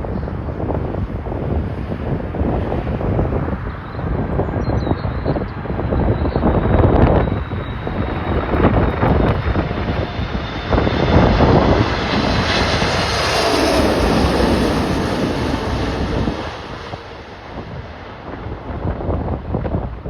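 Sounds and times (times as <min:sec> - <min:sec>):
jet airliner passing overhead: 0:00.0 - 0:20.0
wind buffeting microphone: 0:00.0 - 0:20.0.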